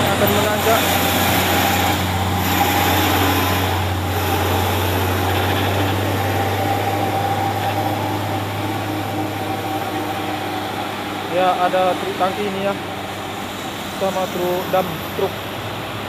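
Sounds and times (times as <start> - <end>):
car passing: 0.0 - 16.0
truck diesel engine droning: 0.0 - 16.0.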